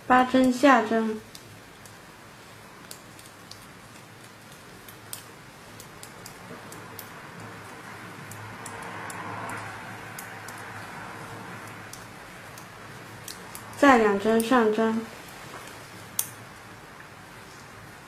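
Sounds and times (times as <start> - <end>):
knitting needles clicking: 0.3 - 2.0, 2.8 - 16.4
yarn and hands rustling: 0.4 - 17.9.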